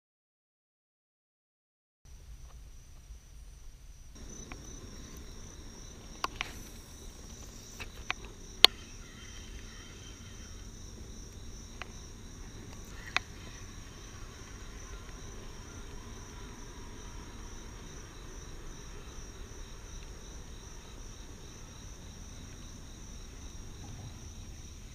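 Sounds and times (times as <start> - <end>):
crickets chirping: 2.1 - 24.9.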